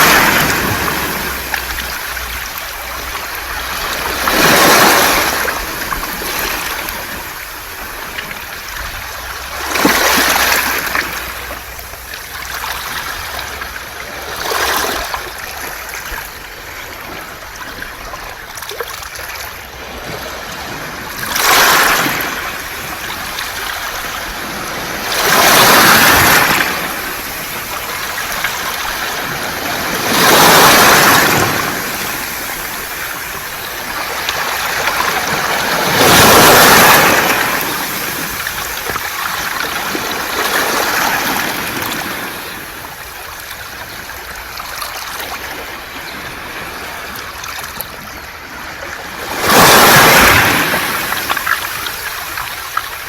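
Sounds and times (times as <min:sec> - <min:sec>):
waves washing over pebbles: 0:00.0 - 0:53.0.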